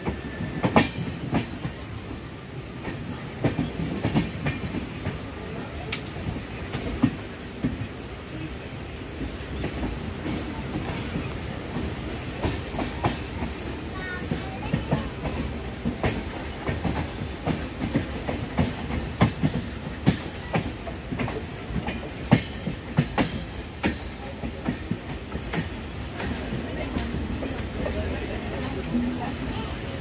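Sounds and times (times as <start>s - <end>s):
train coach rumbling: 0.0s - 30.0s.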